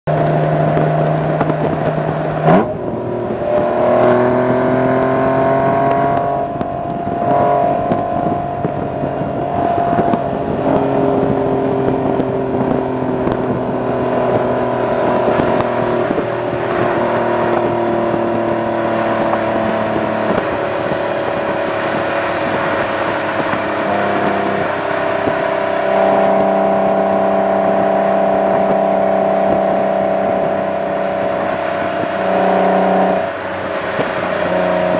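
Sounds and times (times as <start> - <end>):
car exhaust drone: 0.0 - 34.9
wind and road noise: 0.0 - 34.9.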